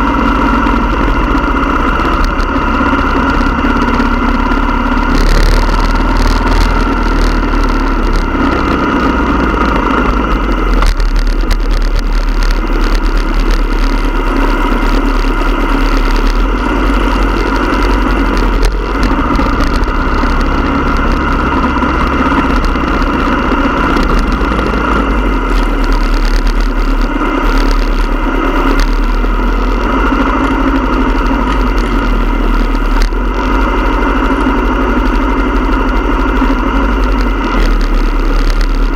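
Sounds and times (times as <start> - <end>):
motorcycle engines rumbling: 0.0 - 38.9.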